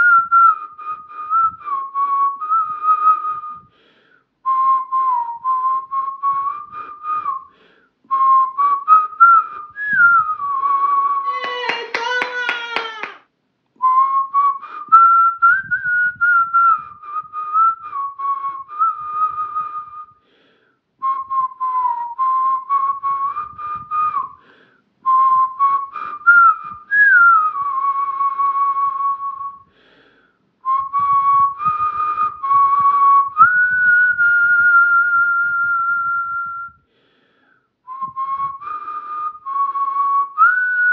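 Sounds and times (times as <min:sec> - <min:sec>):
person whistling a melody: 0:00.0 - 0:03.8, 0:04.4 - 0:11.3, 0:13.8 - 0:20.3, 0:21.0 - 0:29.8, 0:30.6 - 0:36.9, 0:37.9 - 0:40.9.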